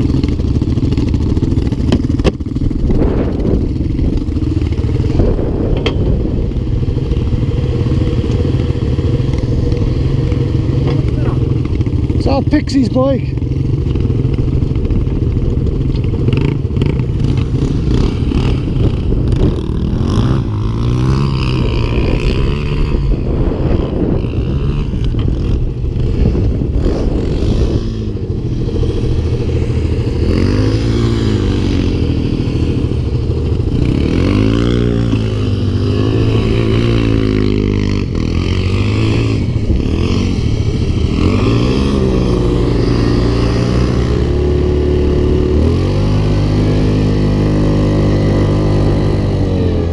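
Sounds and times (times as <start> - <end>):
quad engine revving: 0.0 - 49.9.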